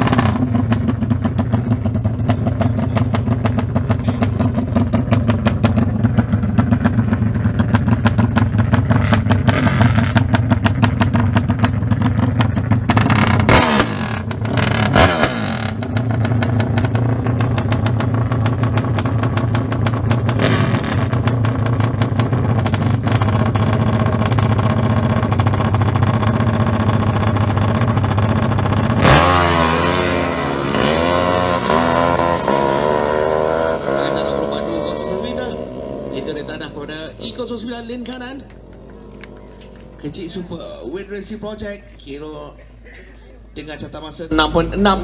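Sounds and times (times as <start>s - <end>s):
motorcycle engine revving: 0.0s - 41.4s.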